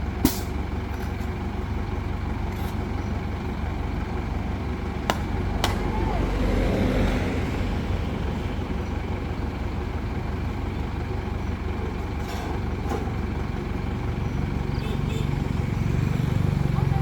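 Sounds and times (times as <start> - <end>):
crane engine rumbling: 0.0 - 17.0.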